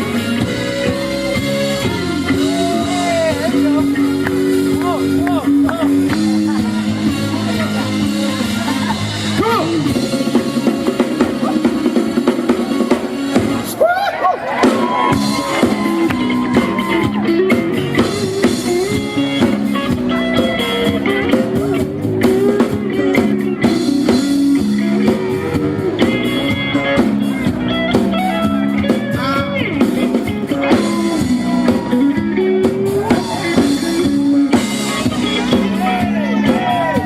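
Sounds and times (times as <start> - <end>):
live band playing funk: 0.0 - 37.0.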